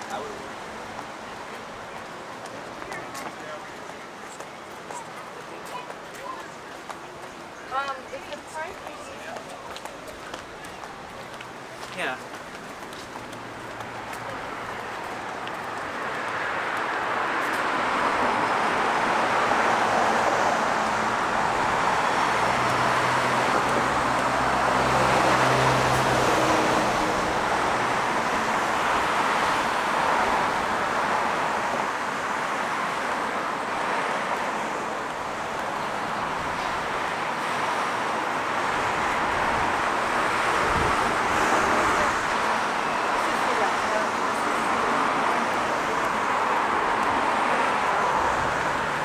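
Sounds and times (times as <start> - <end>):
cars passing with tyre noise: 0.0 - 49.0.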